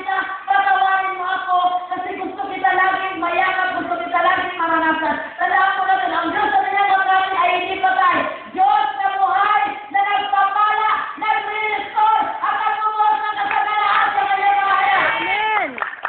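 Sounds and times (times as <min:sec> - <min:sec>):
woman singing through a pa: 0:00.0 - 0:15.8.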